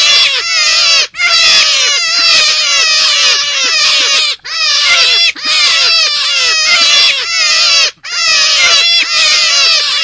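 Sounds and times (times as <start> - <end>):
rabbit calls: 0.0 - 10.0.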